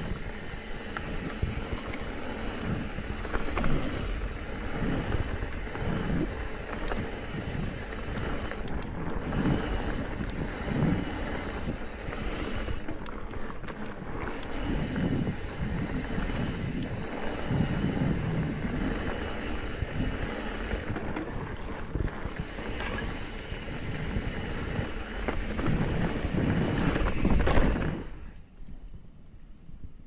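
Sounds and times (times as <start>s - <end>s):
sharp clicks from bike: 0.0s - 28.8s
bike tyres rumbling on dirt: 0.0s - 29.2s
wind buffeting microphone: 0.0s - 30.0s.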